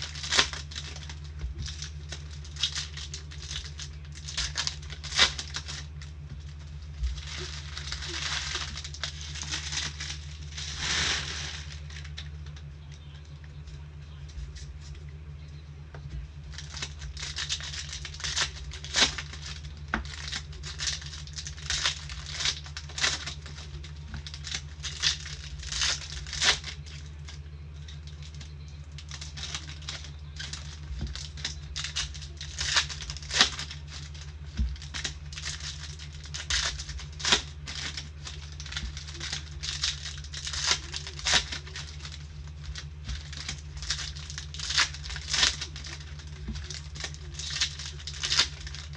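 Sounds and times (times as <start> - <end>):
wrapping crinkling and tearing: 0.0 - 15.1, 16.0 - 48.9
low hum: 0.0 - 48.9.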